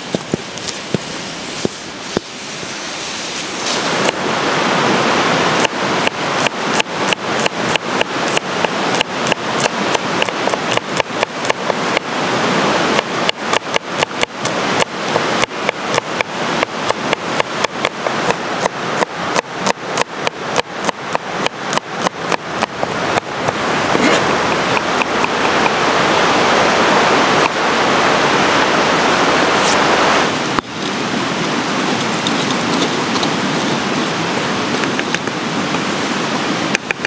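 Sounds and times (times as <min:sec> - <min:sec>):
steady rushing noise: 0:00.0 - 0:37.0.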